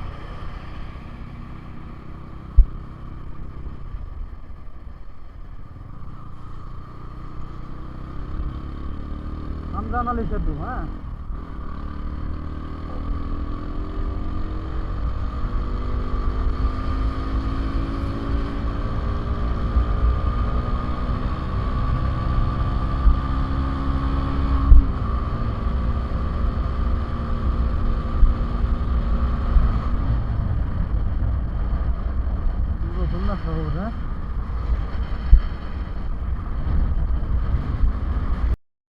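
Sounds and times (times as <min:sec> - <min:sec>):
motorcycle engine running: 0:00.0 - 0:38.6
wind rumble on microphone: 0:01.7 - 0:06.2, 0:08.0 - 0:38.6.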